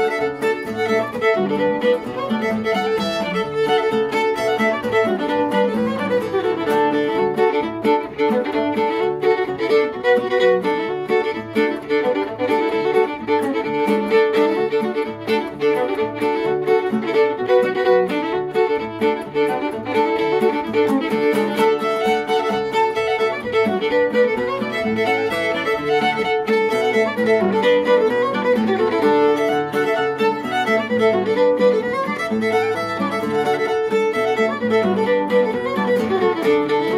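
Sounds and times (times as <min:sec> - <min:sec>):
acoustic guitar backing: 0:00.0 - 0:36.9
fiddle playing a fast reel: 0:00.0 - 0:36.9.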